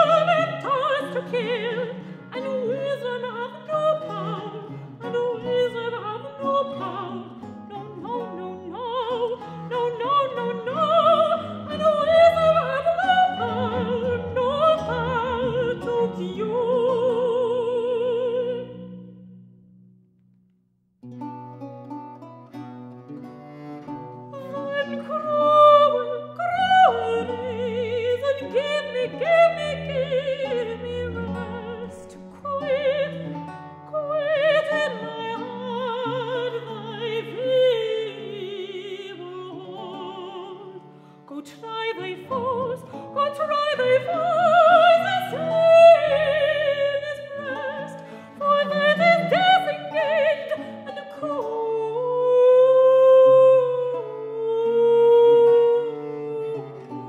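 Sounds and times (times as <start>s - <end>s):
woman singing with vibrato: 0.0s - 19.1s, 24.3s - 57.0s.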